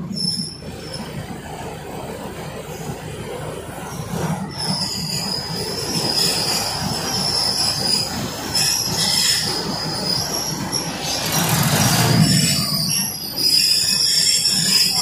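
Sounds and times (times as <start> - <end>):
train wheels squealing: 0.0 - 1.8, 2.6 - 15.0
train carriages rumbling: 0.0 - 15.0.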